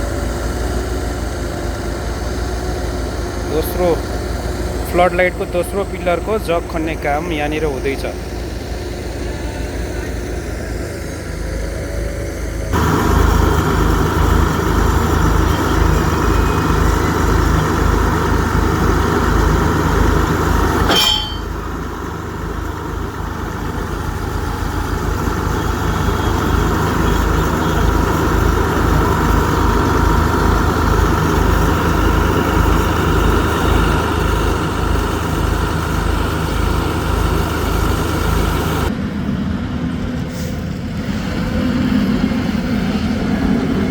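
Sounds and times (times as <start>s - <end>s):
heavy machinery engine pulsing: 0.0s - 43.9s.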